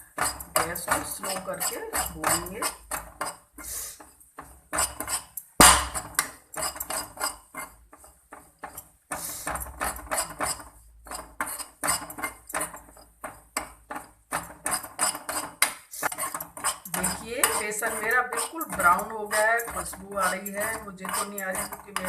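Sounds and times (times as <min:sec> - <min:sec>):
spoon scraping a pan: 0:00.0 - 0:22.0.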